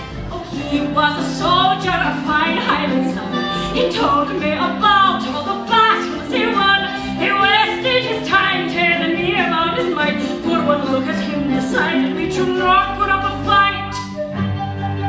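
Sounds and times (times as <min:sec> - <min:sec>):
woman singing with vibrato: 0:00.0 - 0:14.2
instrumental accompaniment: 0:00.0 - 0:15.0.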